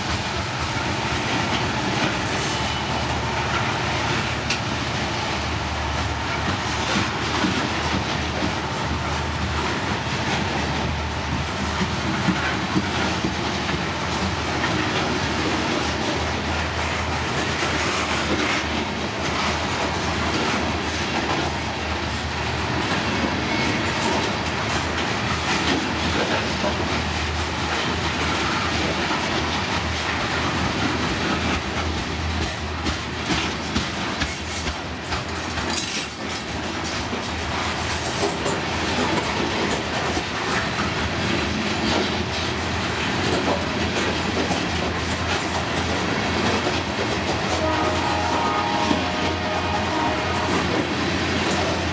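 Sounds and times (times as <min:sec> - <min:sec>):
train cars rolling on rails: 0:00.0 - 0:51.9
wheels clacking over rail joints: 0:00.0 - 0:51.9.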